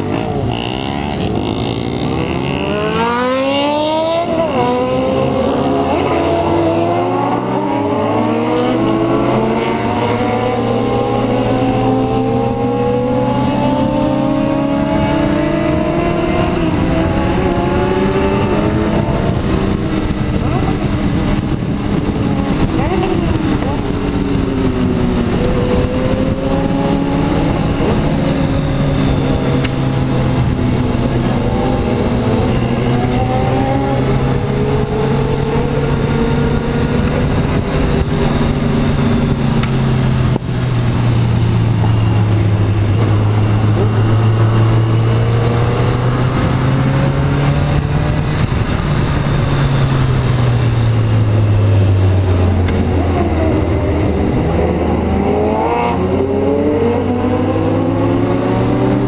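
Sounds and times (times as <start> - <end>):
motorcycle engine running: 0.0 - 59.0
wind rush: 1.2 - 59.0.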